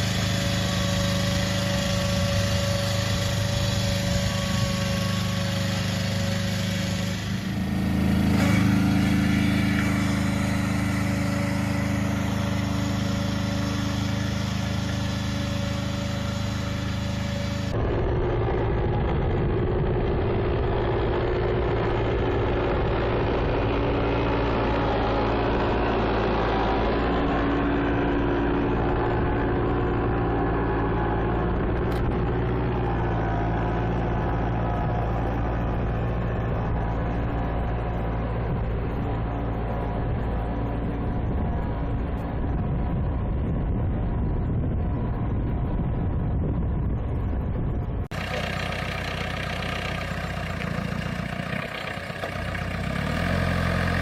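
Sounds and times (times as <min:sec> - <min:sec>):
engine running steadily: 0:00.0 - 0:54.0
tractor engine running: 0:00.0 - 0:54.0.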